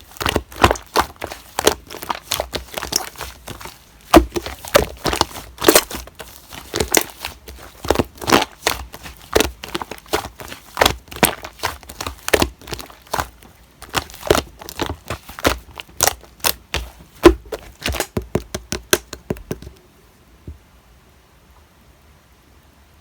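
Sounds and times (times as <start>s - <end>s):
slime clicking and popping: 0.1s - 19.7s.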